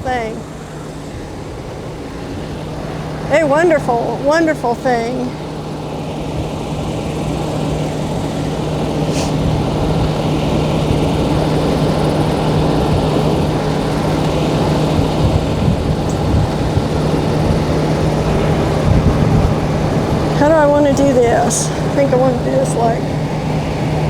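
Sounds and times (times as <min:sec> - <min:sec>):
air conditioning fan blowing: 0:00.0 - 0:24.0
vehicle engine humming: 0:00.0 - 0:24.0.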